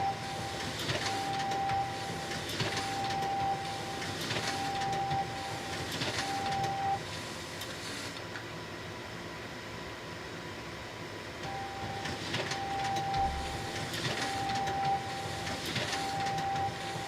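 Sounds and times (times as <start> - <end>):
photocopier whining and clicking: 0.0 - 8.5, 11.4 - 17.0
photocopier steady hum: 0.0 - 17.0.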